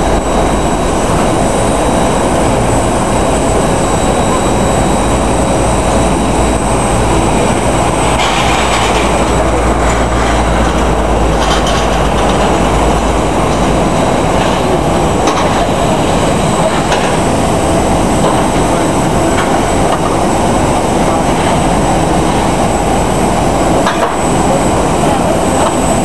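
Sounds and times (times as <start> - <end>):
faint high turbine whine: 0.0 - 26.0
heavy low rumble: 0.0 - 26.0
jet aircraft roar: 0.0 - 26.0.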